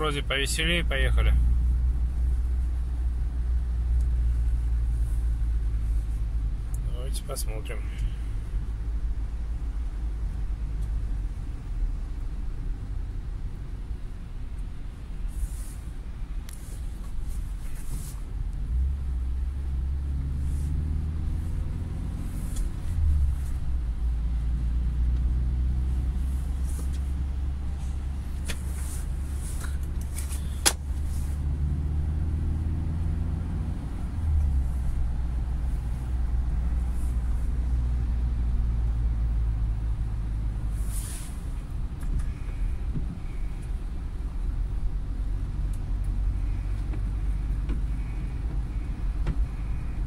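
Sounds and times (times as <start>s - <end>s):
car engine and road drone: 0.0s - 50.0s.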